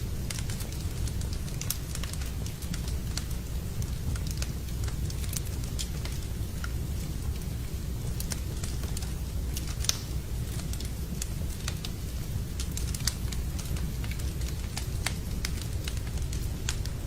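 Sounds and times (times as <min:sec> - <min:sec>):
low rumble of burning: 0:00.0 - 0:17.0
wood fire snaps and pops: 0:00.0 - 0:17.0.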